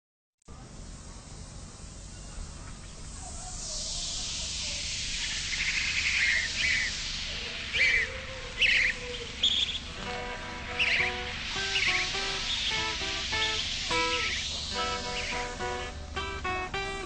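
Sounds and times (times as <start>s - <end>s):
steady hiss: 0.5s - 17.0s
small birds chirping: 2.0s - 17.0s.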